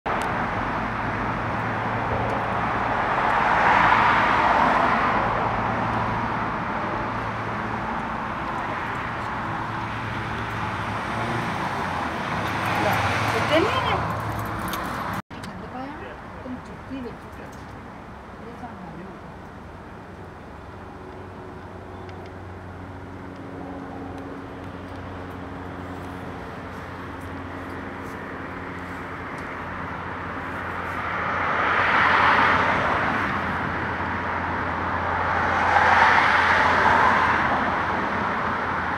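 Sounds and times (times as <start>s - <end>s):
vehicles passing: 0.1s - 38.9s.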